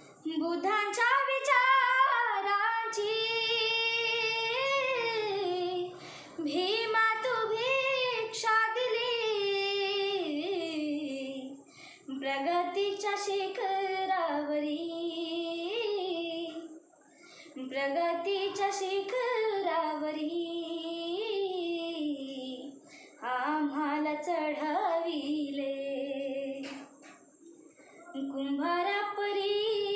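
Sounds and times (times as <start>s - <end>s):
girl singing: 0.2s - 16.7s, 17.6s - 26.8s, 28.1s - 29.9s.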